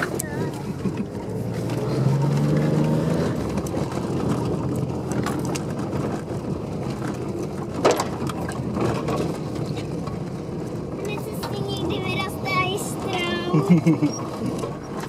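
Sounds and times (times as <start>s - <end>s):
car body rumbling and knocking: 0.0s - 15.0s
car engine under load: 0.0s - 15.0s.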